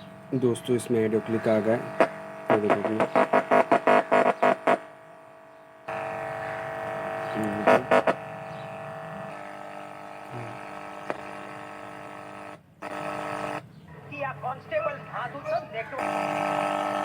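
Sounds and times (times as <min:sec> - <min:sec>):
electrical buzz from tv speakers: 0:00.0 - 0:17.0.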